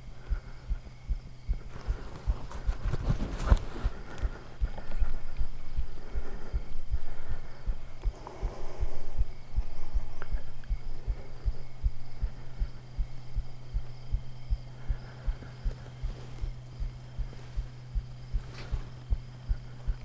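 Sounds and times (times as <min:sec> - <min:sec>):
heartbeat thumps: 0:00.0 - 0:20.0
low hum: 0:00.0 - 0:20.0.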